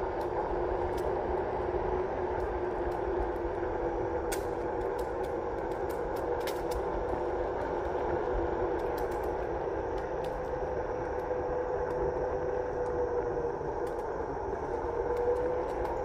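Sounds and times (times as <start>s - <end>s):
faint ticks: 0.0s - 1.6s, 2.3s - 16.0s.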